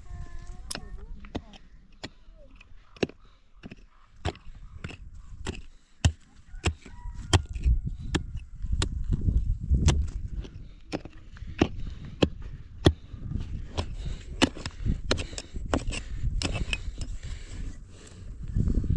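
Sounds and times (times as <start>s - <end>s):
digging tool chipping rocky soil: 0.4s - 17.3s.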